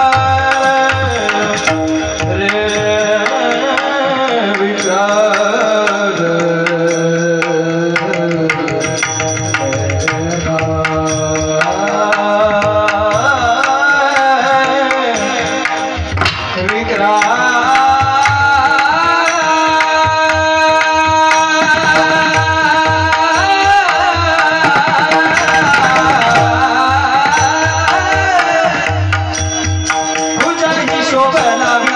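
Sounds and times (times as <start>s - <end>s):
hand drum rhythm: 0.0s - 31.9s
held instrumental tones: 0.0s - 31.9s
man singing devotional melody: 0.0s - 31.9s.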